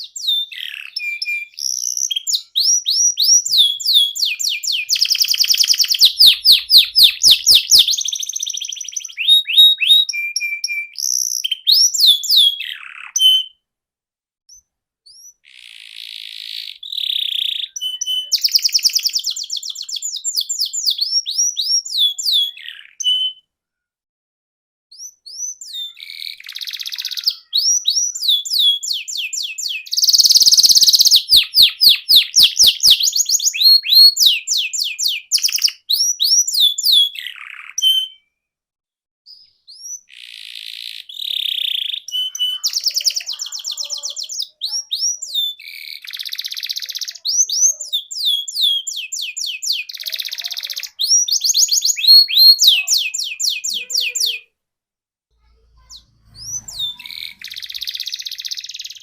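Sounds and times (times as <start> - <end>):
canary singing trills: 0.0 - 13.6, 14.5 - 23.5, 24.9 - 38.3, 39.3 - 54.5, 55.4 - 59.0.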